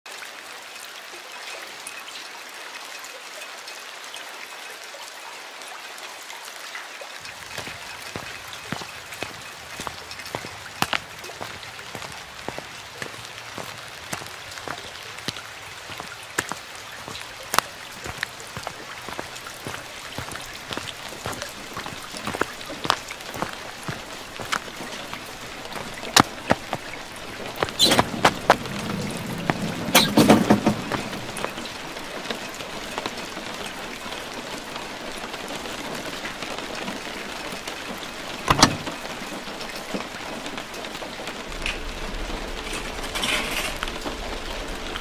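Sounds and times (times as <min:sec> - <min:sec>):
steady rain falling: 0:00.1 - 0:45.0.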